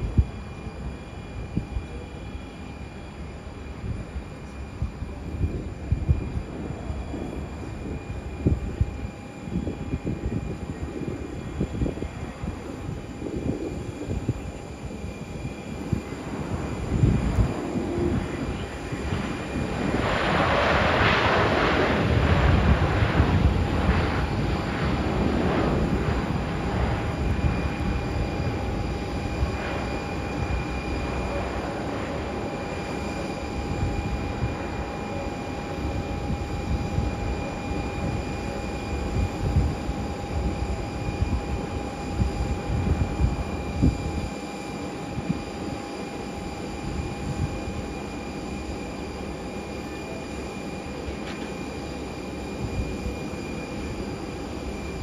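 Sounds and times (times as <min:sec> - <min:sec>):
jet engines rumbling: 0:00.0 - 0:55.0
thin jet engine whine: 0:00.0 - 0:55.0.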